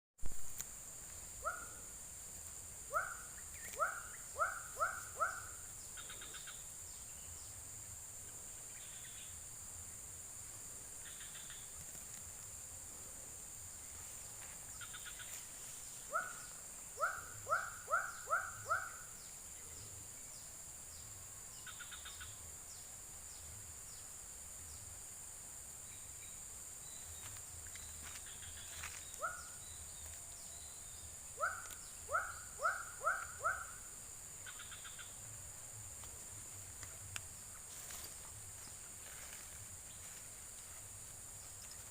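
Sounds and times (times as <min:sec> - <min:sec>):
high insect drone: 0:00.2 - 0:41.9.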